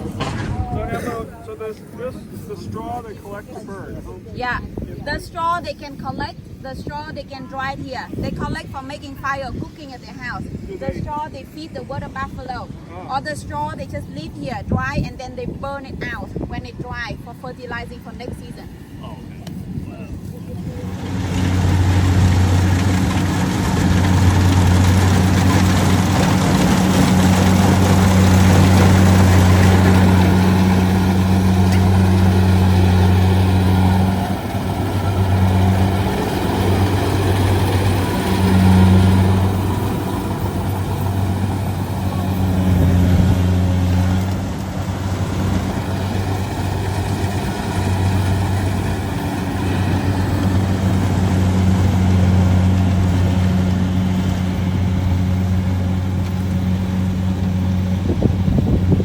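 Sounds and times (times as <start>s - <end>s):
harvester engine droning: 0.0s - 59.0s.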